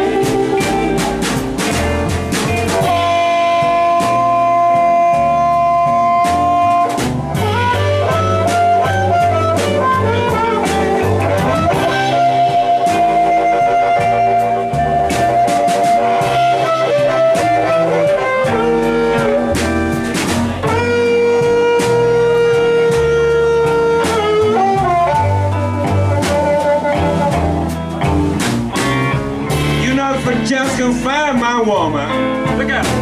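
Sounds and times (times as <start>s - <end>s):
amplified harmonica solo: 0.0s - 30.5s
blues band playing: 0.0s - 33.0s.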